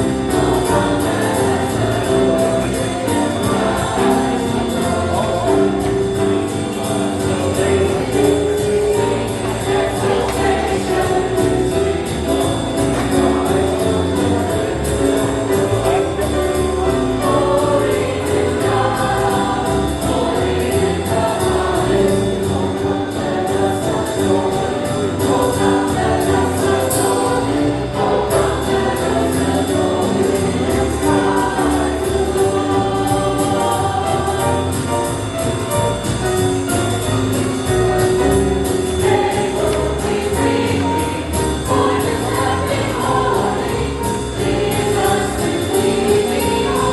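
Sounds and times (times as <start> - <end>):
choir singing: 0.0 - 46.9
instrumental accompaniment: 0.0 - 46.9.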